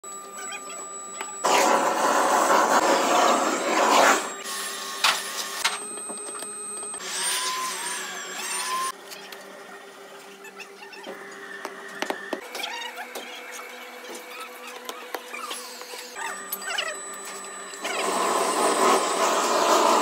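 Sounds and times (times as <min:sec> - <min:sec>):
steady motor hum: 0:00.0 - 0:20.0.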